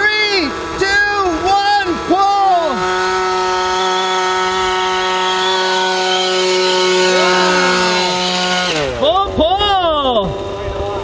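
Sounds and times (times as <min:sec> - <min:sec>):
small two-stroke engine revving: 0:00.0 - 0:11.0.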